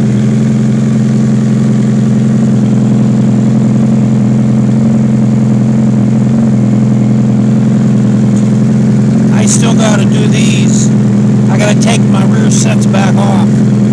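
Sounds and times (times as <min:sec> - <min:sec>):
loud motor hum: 0:00.0 - 0:13.9.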